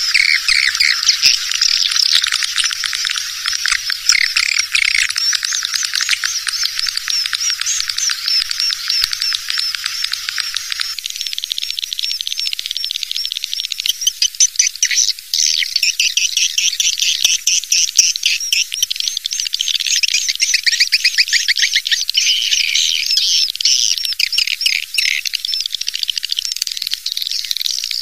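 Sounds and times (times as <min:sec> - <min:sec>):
swiftlets twittering and chirping: 0:00.0 - 0:28.0.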